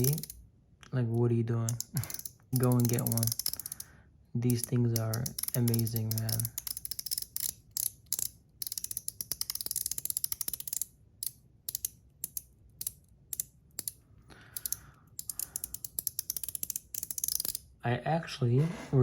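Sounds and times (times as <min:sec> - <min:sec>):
metallic clicks of fidget slider: 0:00.0 - 0:00.4, 0:01.7 - 0:03.8, 0:04.4 - 0:17.7.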